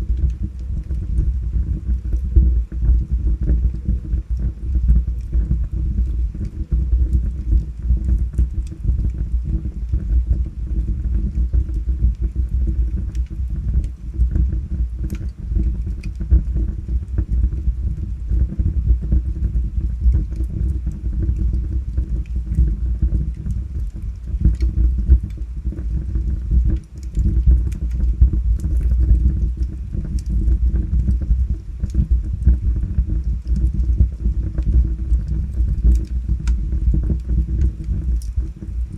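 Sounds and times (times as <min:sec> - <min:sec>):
logs crackling and popping: 0:00.0 - 0:38.9
low rumble of flames: 0:00.0 - 0:38.9.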